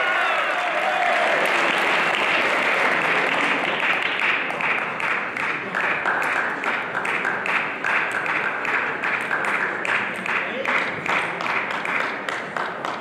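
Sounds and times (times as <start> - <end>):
crowd applauding: 0.0 - 13.0
rhythmic clapping in unison: 1.1 - 13.0.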